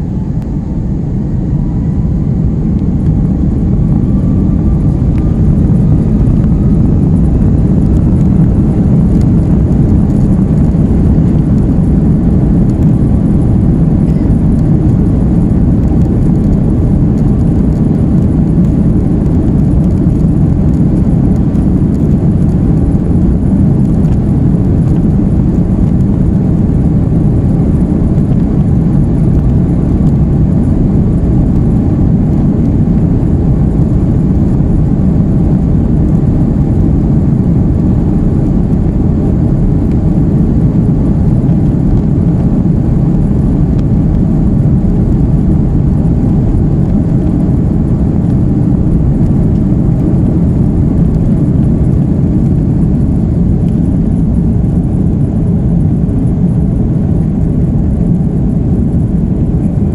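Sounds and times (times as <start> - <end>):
jet cabin engine rumble: 0.0 - 59.9.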